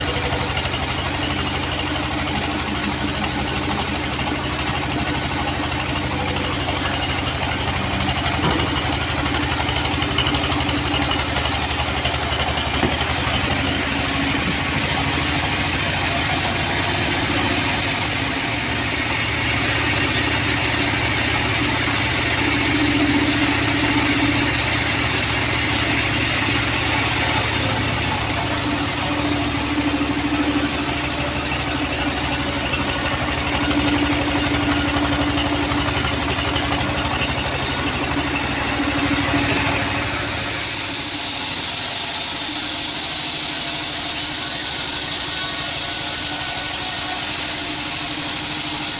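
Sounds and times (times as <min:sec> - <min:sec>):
sawmill machine drone: 0:00.0 - 0:48.9.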